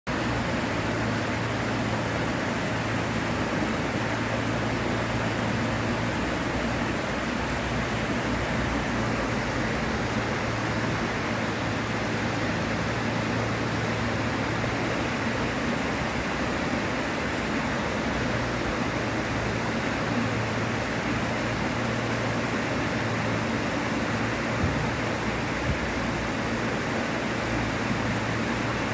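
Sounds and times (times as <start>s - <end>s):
river water rushing: 0.1s - 28.9s.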